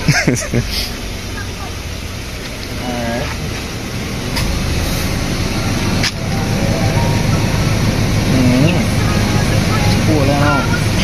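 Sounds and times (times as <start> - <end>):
car engine and blower hum: 0.0 - 11.0.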